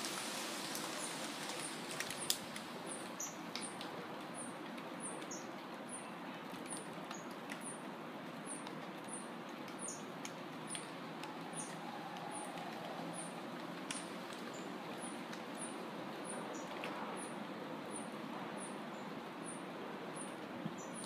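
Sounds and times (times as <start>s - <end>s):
wind rustling leaves: 0.0s - 21.0s.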